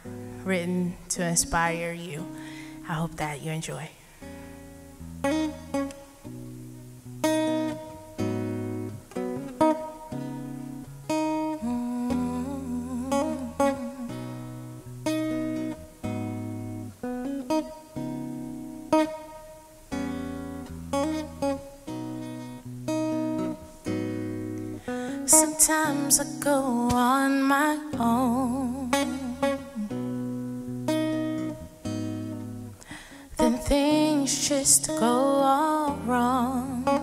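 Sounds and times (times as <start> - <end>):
acoustic guitar chords: 0.0 - 37.0.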